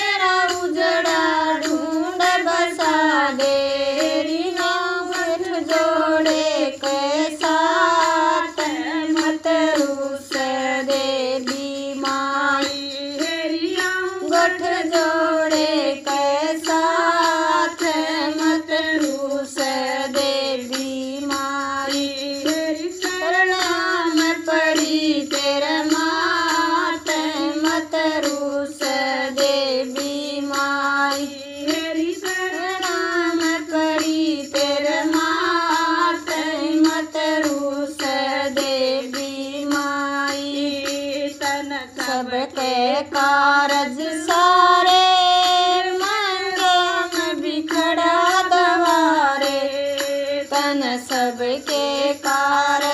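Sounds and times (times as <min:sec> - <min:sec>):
woman singing devotional song: 0:00.0 - 0:52.9.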